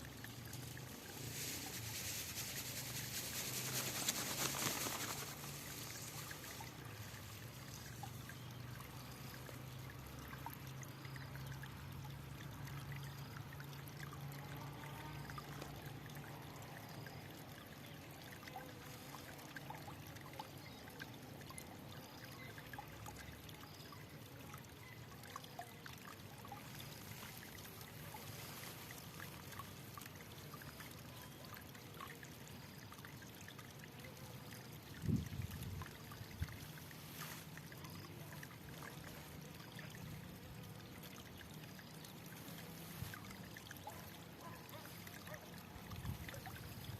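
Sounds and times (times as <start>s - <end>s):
water trickling in a stream: 0.0s - 46.9s.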